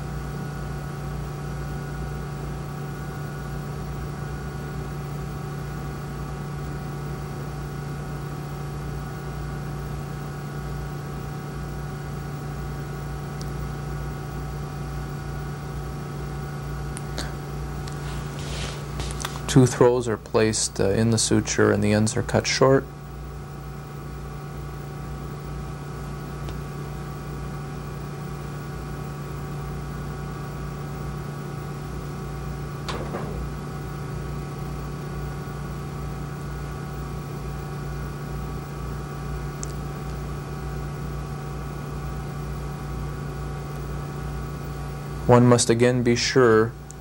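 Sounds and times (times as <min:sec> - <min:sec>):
steady electrical hum: 0:00.0 - 0:47.0.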